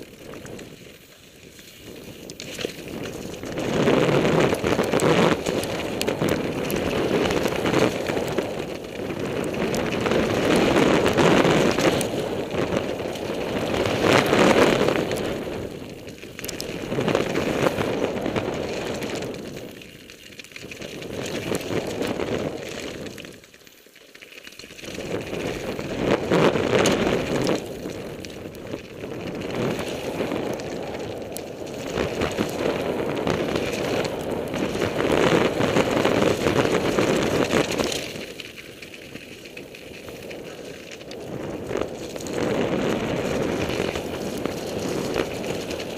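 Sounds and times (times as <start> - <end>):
wind rushing over microphone: 0.0 - 23.4, 24.7 - 45.9
bike tyres on gravel: 0.0 - 45.9.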